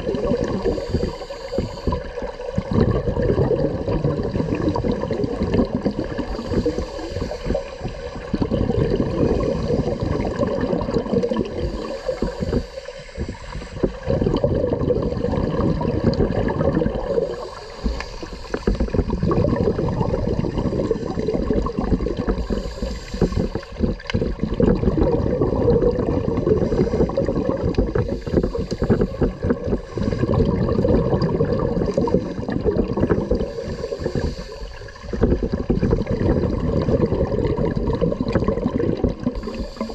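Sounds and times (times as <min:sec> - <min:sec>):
moving water underwater: 0:00.0 - 0:39.9
underwater bubbles gurgling: 0:00.0 - 0:39.9.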